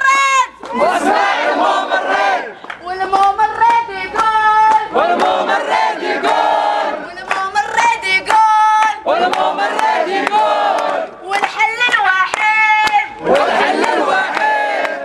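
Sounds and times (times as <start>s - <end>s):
slogans shouted through megaphone: 0.0s - 2.6s, 3.2s - 15.0s
crowd chanting: 0.6s - 11.2s, 13.1s - 15.0s.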